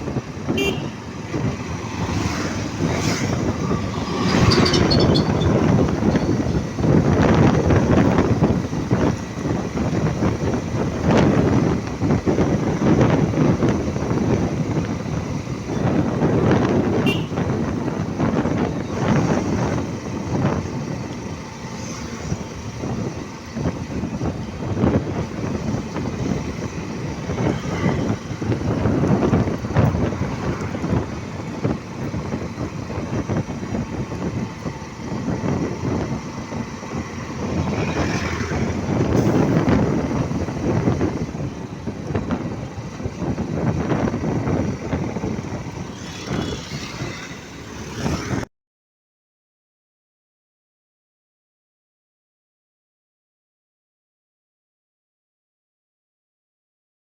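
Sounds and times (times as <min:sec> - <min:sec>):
vehicle rumbling on road: 0:00.0 - 0:48.5
wind buffeting microphone: 0:00.0 - 0:48.5.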